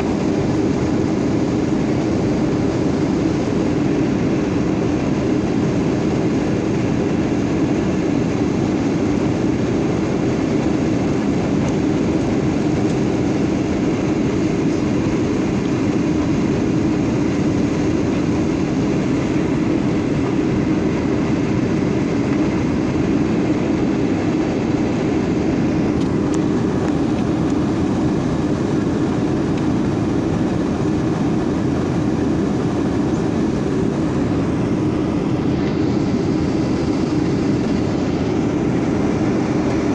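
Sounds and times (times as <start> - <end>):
air rushing along fuselage: 0.0 - 39.9
jet engines droning: 0.0 - 39.9.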